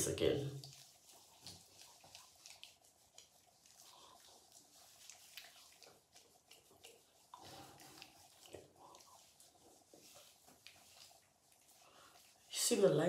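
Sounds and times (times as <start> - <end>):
wet squishing of lather on face: 0.0 - 13.0.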